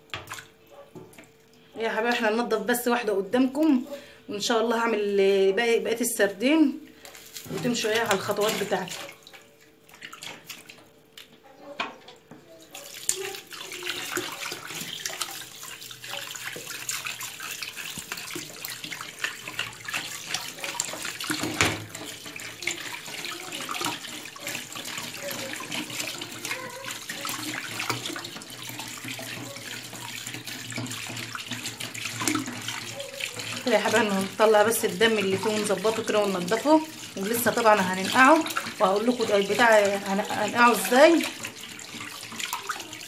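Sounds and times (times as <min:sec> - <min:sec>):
tap running into water: 0:00.0 - 0:01.4, 0:07.0 - 0:43.0
water splashing over hands: 0:07.0 - 0:11.3, 0:12.7 - 0:43.0.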